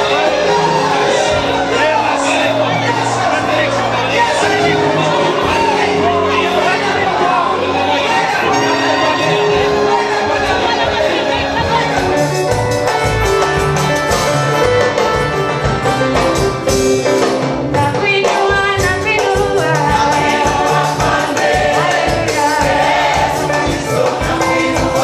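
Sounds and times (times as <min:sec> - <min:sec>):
group singing gospel: 0:00.0 - 0:14.3, 0:19.2 - 0:25.0
instrumental accompaniment with beat: 0:00.0 - 0:25.0.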